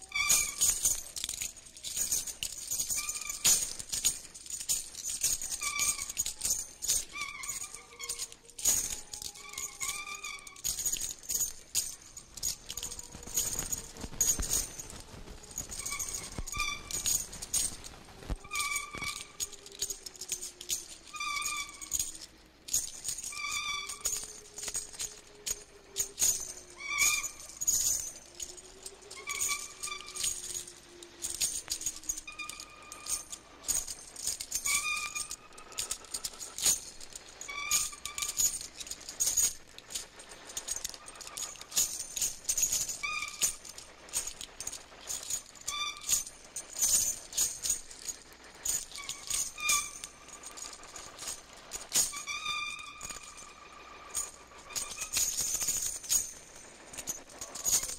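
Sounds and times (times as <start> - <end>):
short high squeaks: 0.0 - 55.7
metal chains rattling: 0.0 - 57.9.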